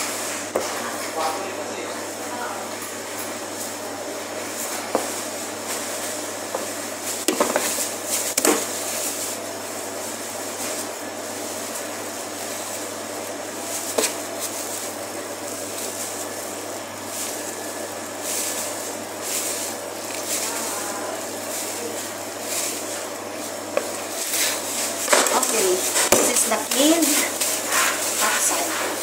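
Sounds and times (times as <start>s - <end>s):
fan-like hum: 0.0s - 29.0s.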